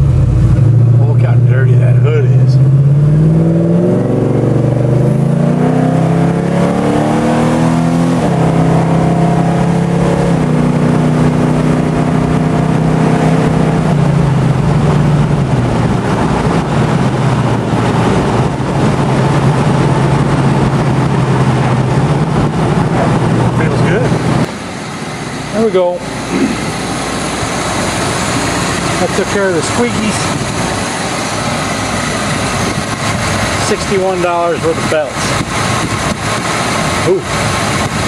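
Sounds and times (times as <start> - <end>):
pickup engine accelerating: 0.0 - 38.0
road and wind noise: 0.0 - 38.0.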